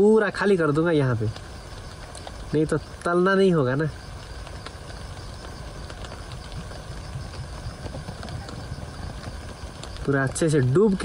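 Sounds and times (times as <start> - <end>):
rain pattering on a tent: 0.0 - 11.0.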